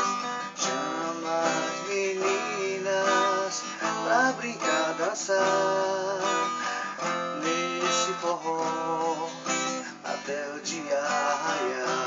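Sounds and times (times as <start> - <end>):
strummed acoustic guitar melody: 0.0 - 12.0.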